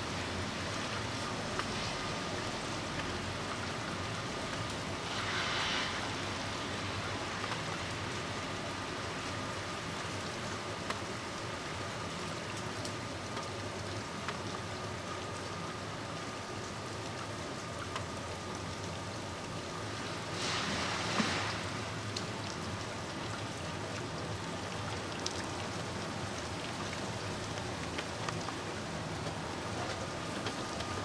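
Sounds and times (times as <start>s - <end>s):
freezing rain hissing: 0.0s - 31.0s.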